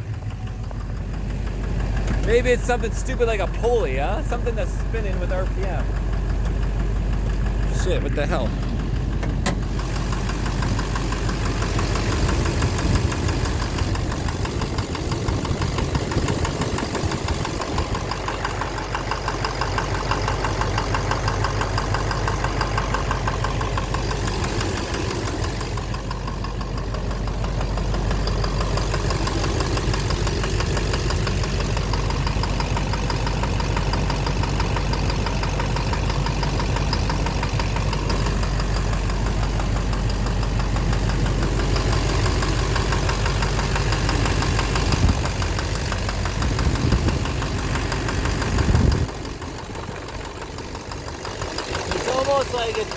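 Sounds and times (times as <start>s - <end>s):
diesel engine idling with knock: 0.0s - 52.9s.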